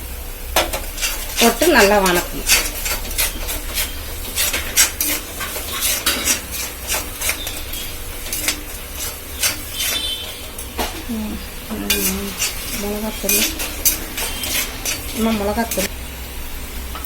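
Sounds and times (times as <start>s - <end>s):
light sizzle: 0.0s - 17.0s
spoon scraping a pan: 0.6s - 15.9s.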